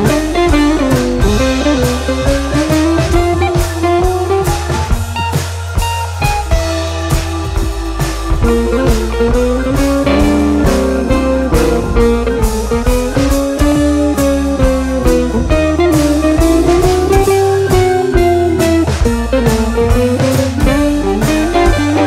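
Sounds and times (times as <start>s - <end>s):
sliding guitar melody: 0.0s - 7.1s, 8.4s - 22.0s
steady drum beat: 0.0s - 22.0s.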